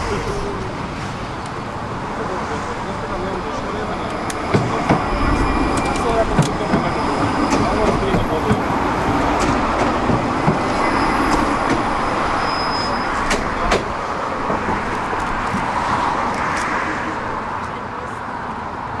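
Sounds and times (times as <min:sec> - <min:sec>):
tram rumbling along rails: 0:00.0 - 0:19.0.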